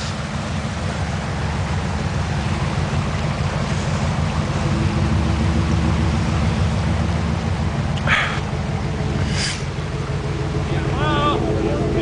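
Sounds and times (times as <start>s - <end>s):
truck engine droning under load: 0.0s - 12.0s.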